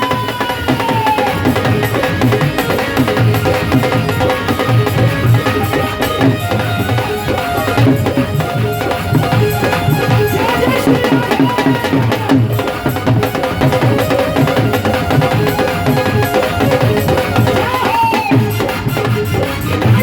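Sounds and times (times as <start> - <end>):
instrumental melody line: 0.0 - 20.0
rhythmic drumming: 0.0 - 20.0.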